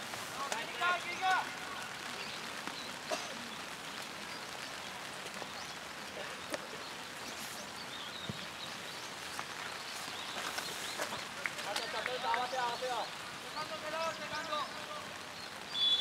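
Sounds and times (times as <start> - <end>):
light rain hissing: 0.0 - 16.0
raindrops ticking: 0.0 - 16.0.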